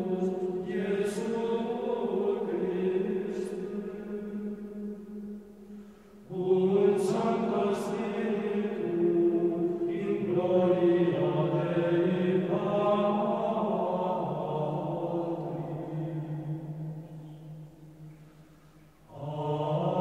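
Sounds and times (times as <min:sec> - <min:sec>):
choir chanting: 0:00.0 - 0:18.1, 0:19.0 - 0:20.0.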